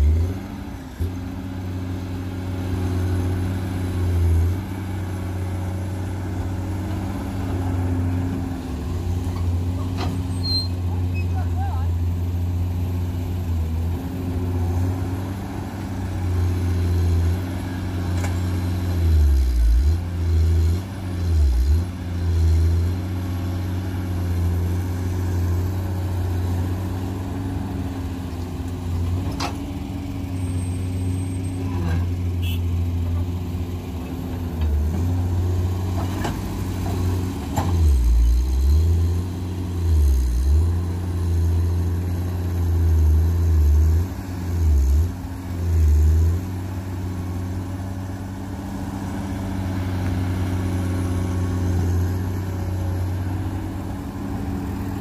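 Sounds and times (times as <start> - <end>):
excavator diesel engine under load: 0.0 - 55.0.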